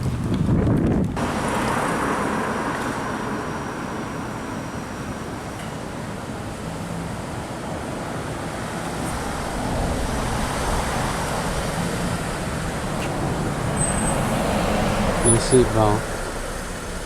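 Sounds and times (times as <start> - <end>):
cars driving past: 1.2 - 17.0.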